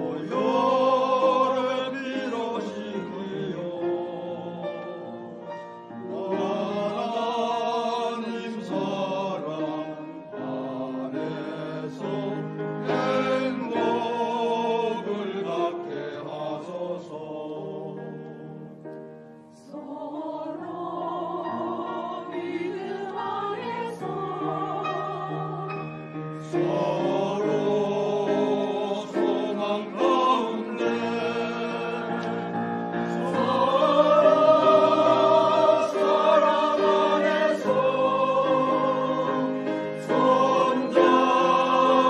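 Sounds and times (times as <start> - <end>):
church choir singing a hymn: 0.0 - 42.0.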